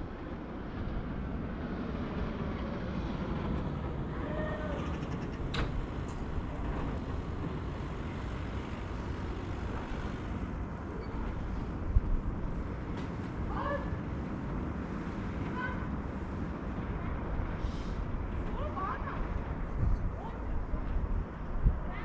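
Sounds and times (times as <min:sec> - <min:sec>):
city ambience rumble: 0:00.0 - 0:22.0.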